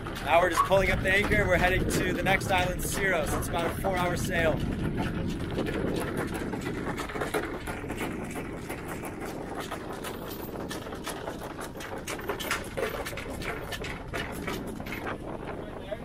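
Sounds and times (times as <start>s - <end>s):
anchor windlass running: 0.0s - 16.0s.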